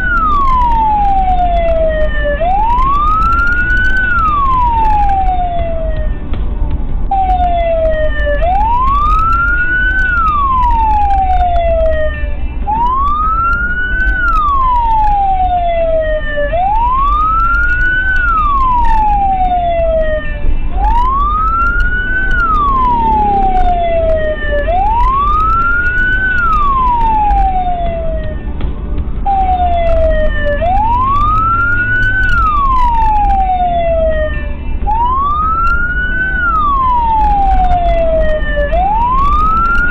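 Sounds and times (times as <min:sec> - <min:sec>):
emergency siren wailing: 0:00.0 - 0:06.4, 0:07.0 - 0:28.6, 0:29.2 - 0:39.9
car engine and tyres rumble: 0:00.0 - 0:39.9.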